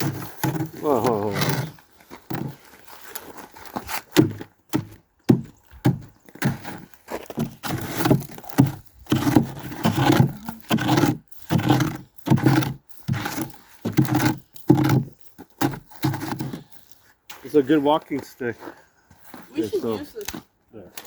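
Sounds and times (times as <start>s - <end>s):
crunching of wood and dry brush: 0.0s - 21.0s.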